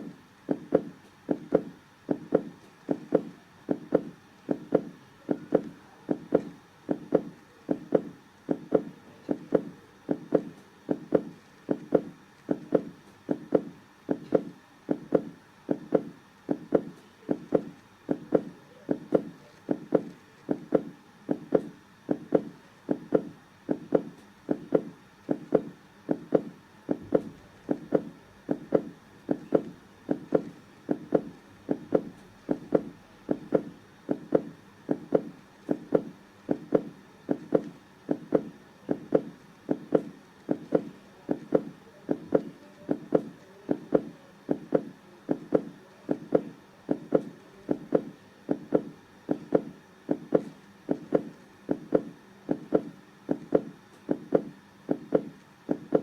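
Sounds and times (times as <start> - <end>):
heartbeat thumps: 0.0 - 56.0.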